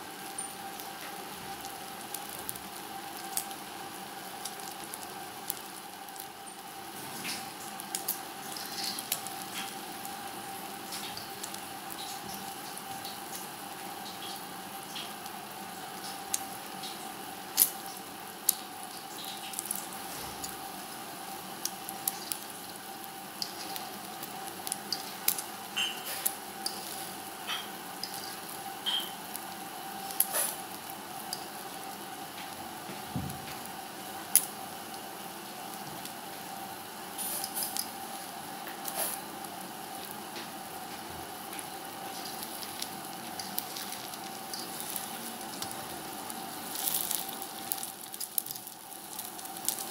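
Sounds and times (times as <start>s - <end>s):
omelette sizzling in oil: 0.0s - 49.9s.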